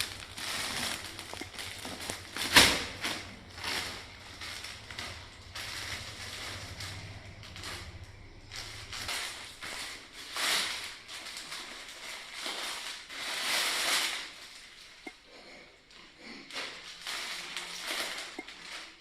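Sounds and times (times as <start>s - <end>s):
plastic packaging crinkling: 0.0s - 15.1s, 16.5s - 19.0s.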